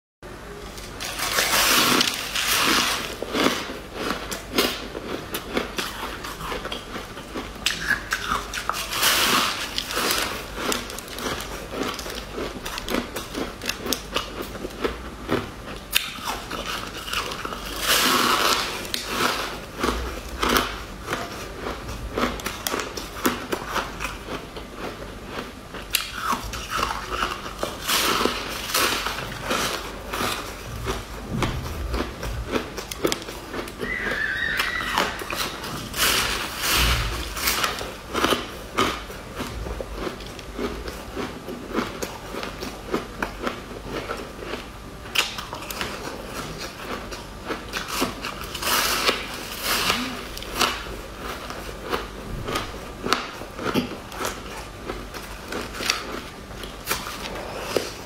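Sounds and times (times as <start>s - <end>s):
crunchy food being chewed: 0.7s - 58.0s.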